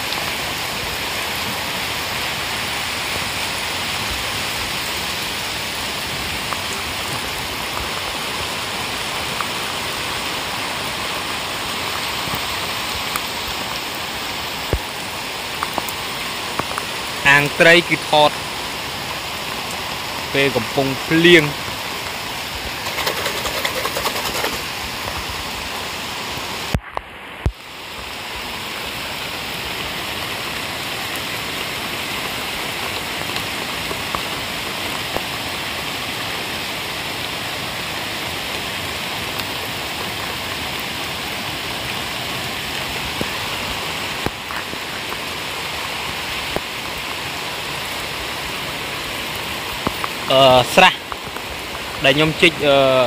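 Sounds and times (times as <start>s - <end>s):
rain falling on pond water: 0.0s - 53.0s.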